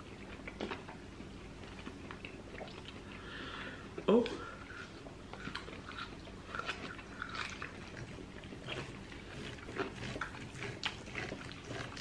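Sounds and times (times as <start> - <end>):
wet chewing and lip-smacking: 0.0 - 3.4, 4.6 - 12.0.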